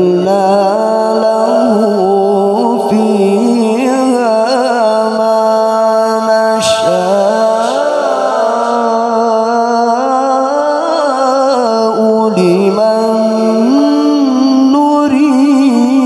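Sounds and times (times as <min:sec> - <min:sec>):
man reciting melodically into microphone: 0:00.0 - 0:16.0.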